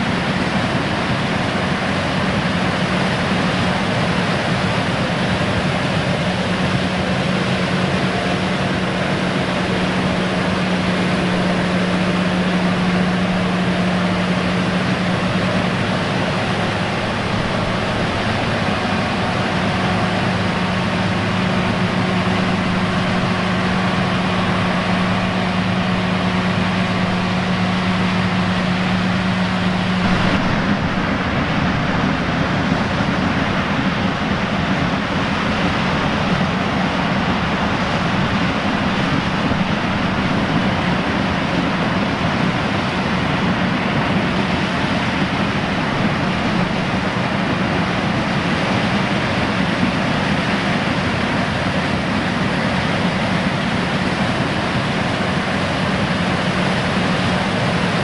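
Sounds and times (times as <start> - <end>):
broad rushing noise of chopping: 0.0 - 58.0
forage harvester engine hum: 0.0 - 58.0.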